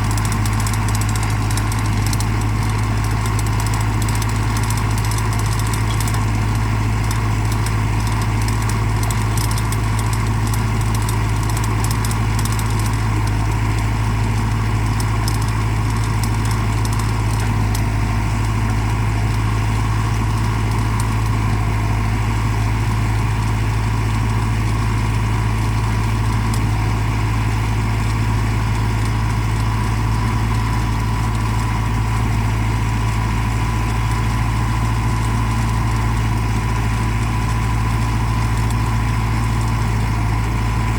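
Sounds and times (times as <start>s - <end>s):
tractor diesel engine humming: 0.0s - 40.9s.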